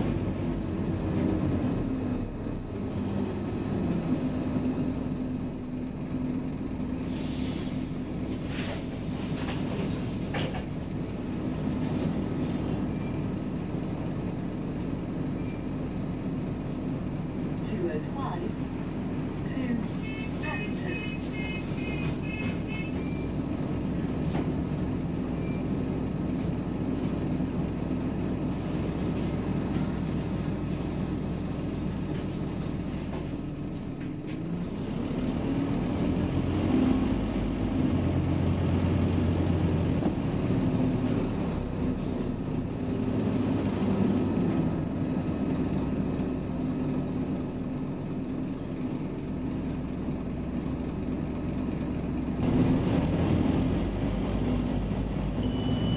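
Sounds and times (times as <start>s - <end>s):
bus engine humming: 0.0s - 55.9s.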